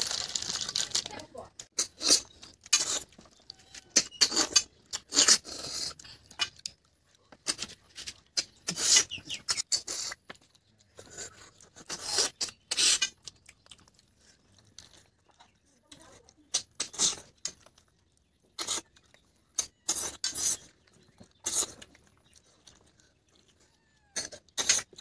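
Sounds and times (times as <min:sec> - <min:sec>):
sucking and slurping snails: 0:00.0 - 0:25.0.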